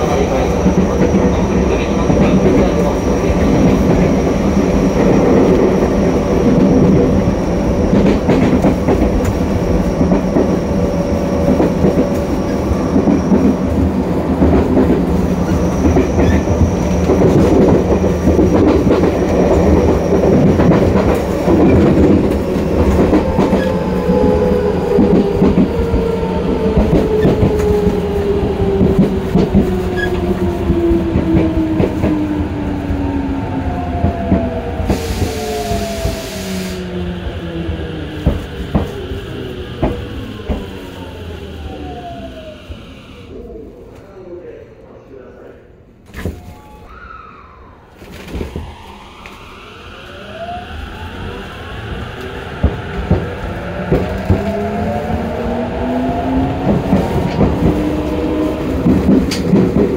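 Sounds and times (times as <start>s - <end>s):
train wheel and track rumble: 0.0s - 44.4s, 47.8s - 59.9s.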